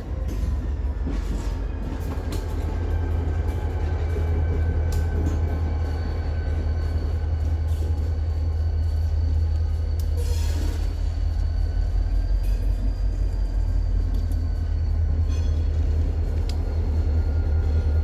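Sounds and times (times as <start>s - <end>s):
locomotive engine rumble: 0.0s - 18.0s
sharp clicks from train cars: 0.0s - 18.0s.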